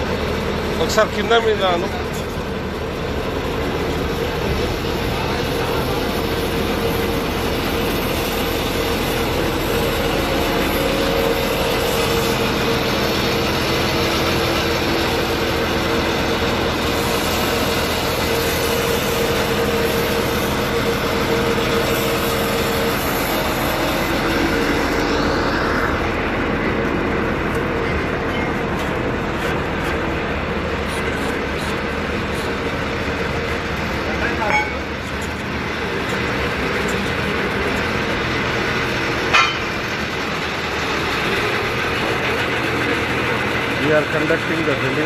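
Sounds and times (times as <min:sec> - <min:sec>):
heavy engine drone: 0:00.0 - 0:45.0
steady whine: 0:00.0 - 0:45.0.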